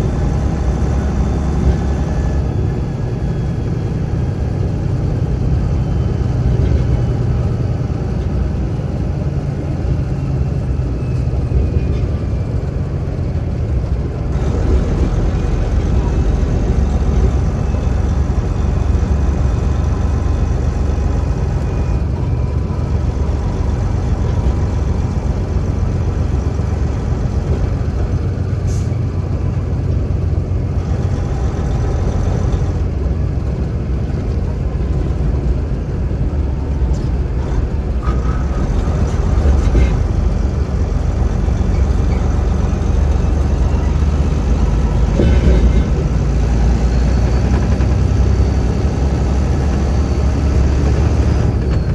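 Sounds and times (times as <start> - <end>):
road noise inside cab: 0.0 - 51.9
truck diesel engine rumble: 0.0 - 51.9.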